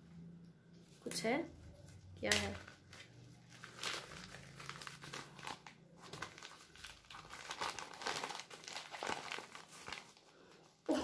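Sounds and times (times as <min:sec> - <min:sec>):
plastic wrapping crinkling: 0:01.0 - 0:11.0.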